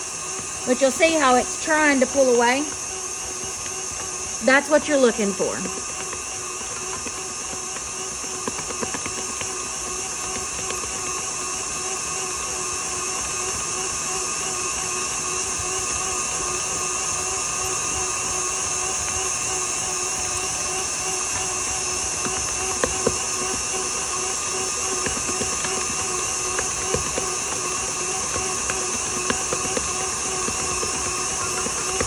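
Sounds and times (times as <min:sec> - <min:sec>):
stand mixer motor whining: 0:00.0 - 0:32.0.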